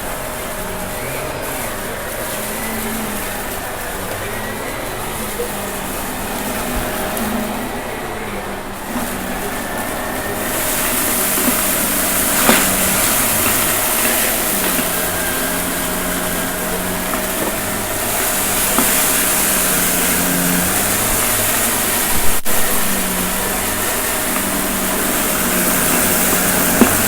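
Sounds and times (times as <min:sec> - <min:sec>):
debris ticking in vacuum: 0:00.0 - 0:27.0
vacuum cleaner running: 0:00.0 - 0:27.0.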